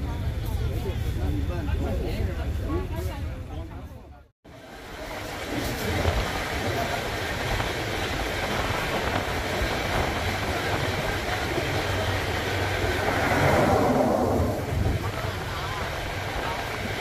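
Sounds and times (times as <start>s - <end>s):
train running noise: 0.0s - 3.7s, 4.5s - 17.0s.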